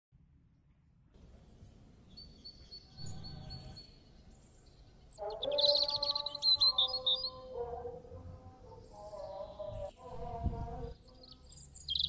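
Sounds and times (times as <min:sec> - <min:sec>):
birds chirping: 0:01.4 - 0:12.0.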